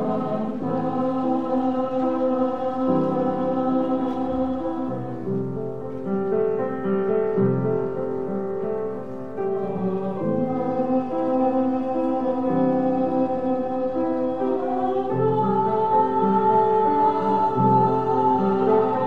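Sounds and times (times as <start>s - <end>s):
slow church music chords: 0.0s - 19.0s.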